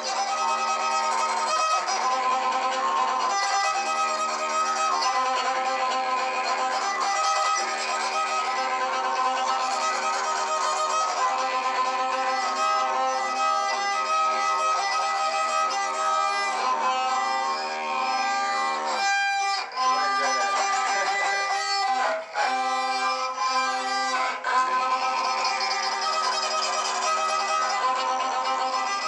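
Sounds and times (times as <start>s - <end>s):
didgeridoo drone: 0.0s - 29.0s
violin playing: 0.0s - 29.0s.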